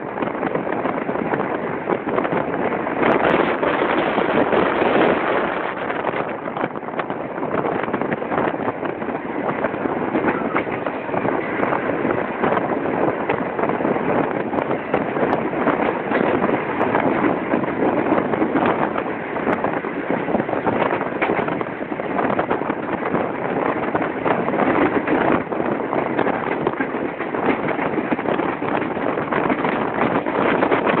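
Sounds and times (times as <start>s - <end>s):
train wheels rushing on rails: 0.0s - 31.0s
wind on microphone: 0.0s - 31.0s
wheels clacking over track: 0.2s - 31.0s.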